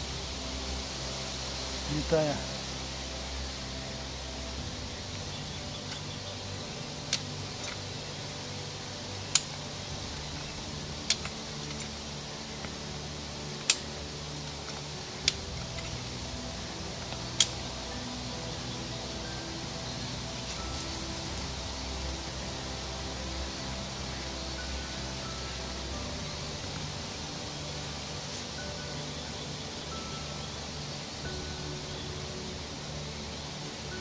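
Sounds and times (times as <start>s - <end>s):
faint hiss and hum: 0.0s - 34.0s.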